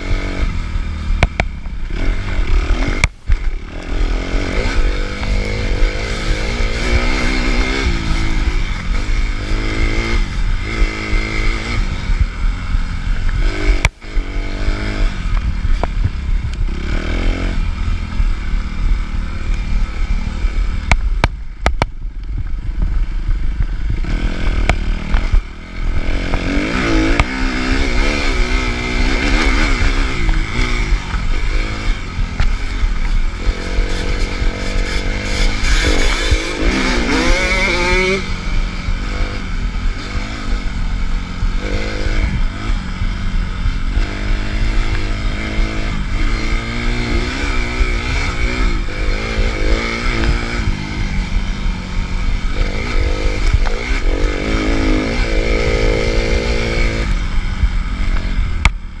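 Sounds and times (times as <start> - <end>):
bike rattling and scraping: 0.0 - 59.0
dirt bike engine revving: 0.0 - 59.0.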